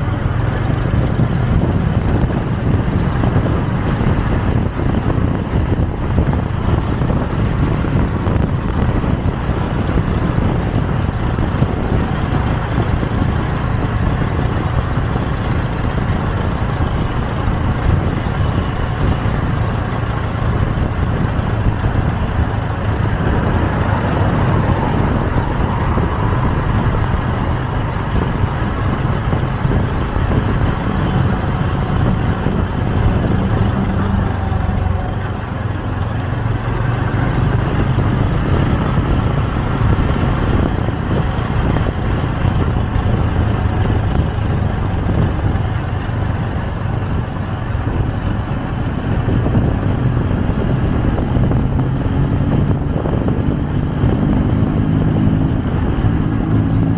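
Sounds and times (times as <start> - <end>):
motorcycle engine running: 0.0 - 56.9
road and traffic noise: 0.0 - 56.9.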